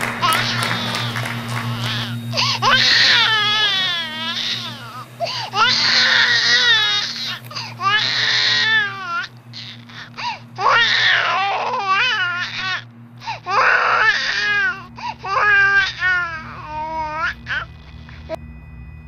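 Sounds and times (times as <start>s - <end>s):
high-pitched wavering crying: 0.0s - 18.4s.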